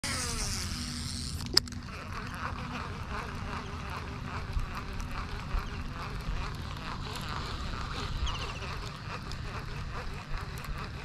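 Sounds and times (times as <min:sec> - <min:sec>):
fishing reel spool whirring: 0:00.0 - 0:11.0
reel handle cranking whir: 0:00.0 - 0:11.0.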